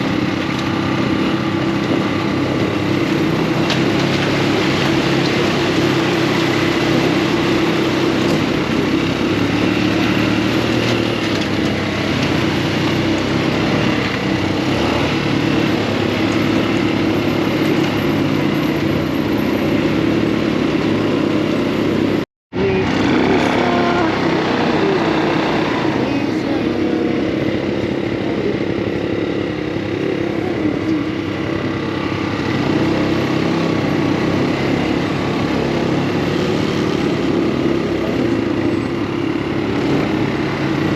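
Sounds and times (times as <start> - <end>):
off-road buggy engine running: 0.0 - 40.9.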